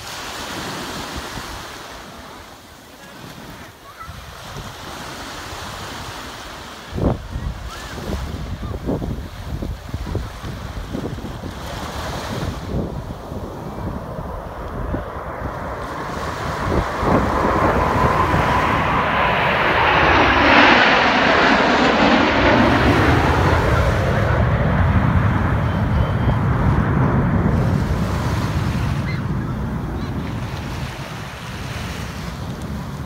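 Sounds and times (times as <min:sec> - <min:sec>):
jet roar flying past: 0:05.0 - 0:33.0.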